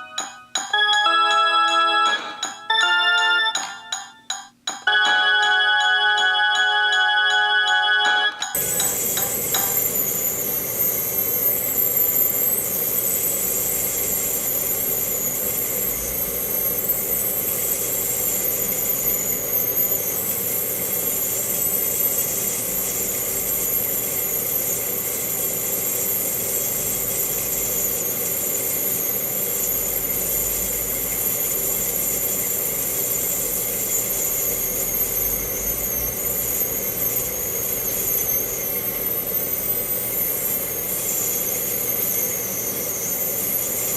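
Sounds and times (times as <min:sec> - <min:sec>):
microwave oven humming: 0:00.0 - 0:43.9.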